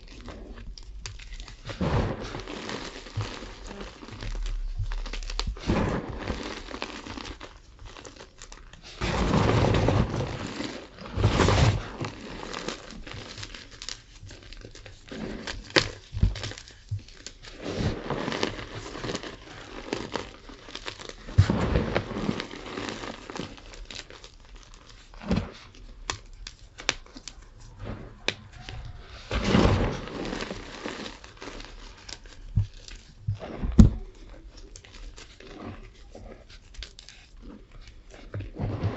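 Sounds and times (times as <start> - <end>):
chalk crunching and crackling: 0.0 - 38.9.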